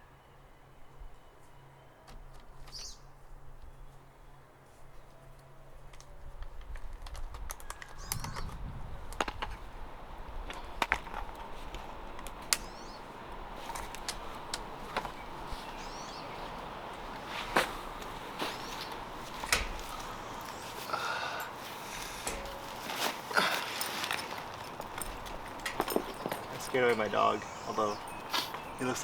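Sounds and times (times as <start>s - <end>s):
outdoor background noise: 0.0s - 29.0s
songbirds chirping: 0.0s - 29.0s.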